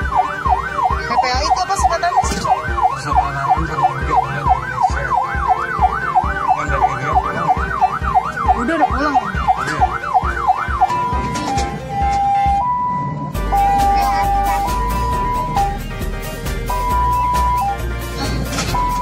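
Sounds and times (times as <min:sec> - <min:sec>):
ambulance siren yelping: 0:00.0 - 0:15.9, 0:16.7 - 0:19.0.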